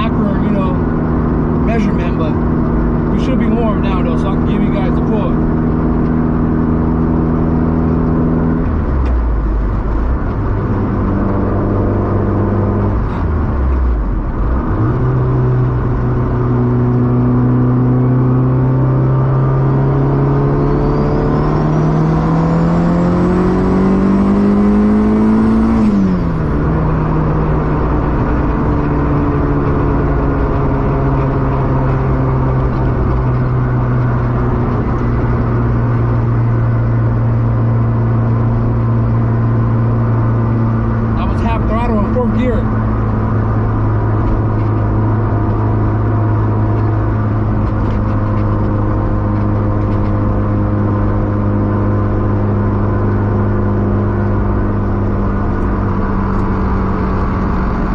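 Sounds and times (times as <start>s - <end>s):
car engine heard from cabin: 0.0s - 57.9s.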